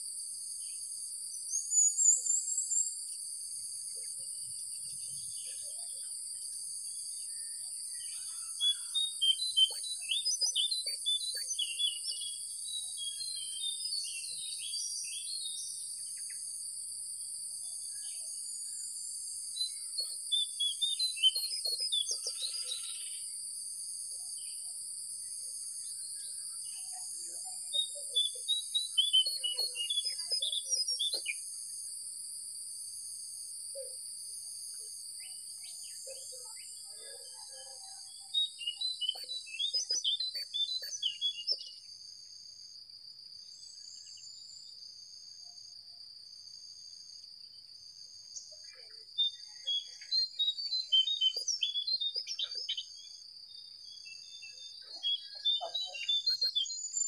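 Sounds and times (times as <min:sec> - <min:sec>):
insect drone with pulsing trill: 0:00.0 - 0:57.0
songbird chirping: 0:00.0 - 0:57.0.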